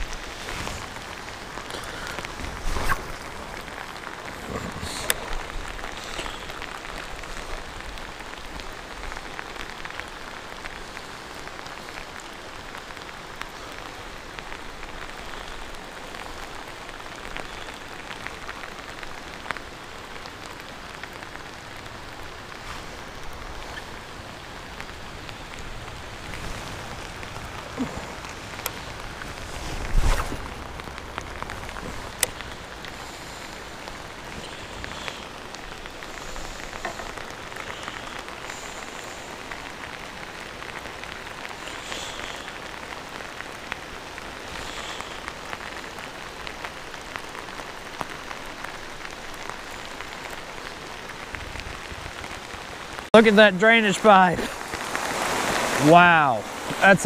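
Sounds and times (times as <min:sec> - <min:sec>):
heavy rain on lake water: 0:00.0 - 0:57.0.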